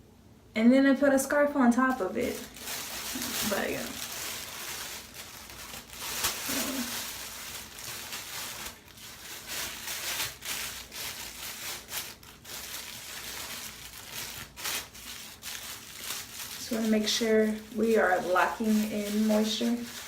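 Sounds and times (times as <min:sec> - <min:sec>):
shower cap crinkling and rustling: 0:02.2 - 0:20.0.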